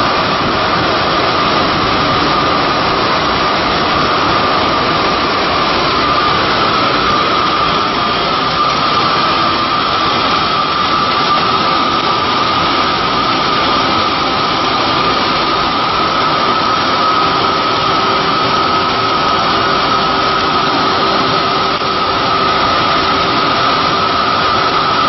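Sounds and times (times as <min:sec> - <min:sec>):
cnc router high whine: 0:00.0 - 0:25.0
loud even rushing noise: 0:00.0 - 0:25.0.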